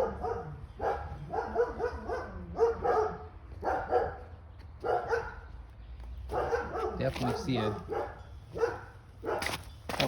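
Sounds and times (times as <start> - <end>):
dog barking: 0.0 - 5.5, 6.3 - 9.6.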